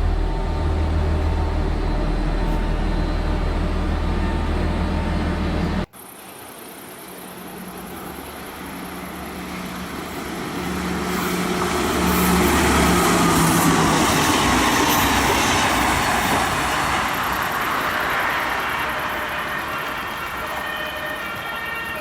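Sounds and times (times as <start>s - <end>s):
train rumbling by: 0.0s - 6.3s, 7.0s - 22.0s.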